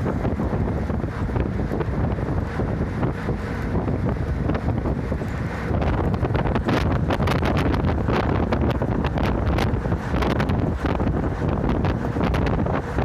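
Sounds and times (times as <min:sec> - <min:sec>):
bus ride rumble: 0:00.0 - 0:13.0
wind buffeting microphone: 0:00.0 - 0:13.0.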